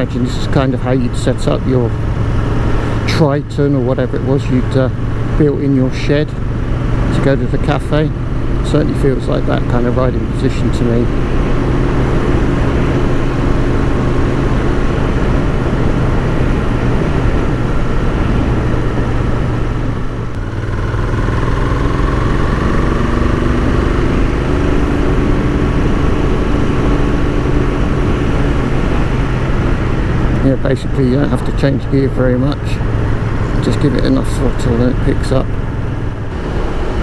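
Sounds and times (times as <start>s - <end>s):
motorcycle engine running: 0.0s - 37.0s
wind rush: 6.4s - 37.0s.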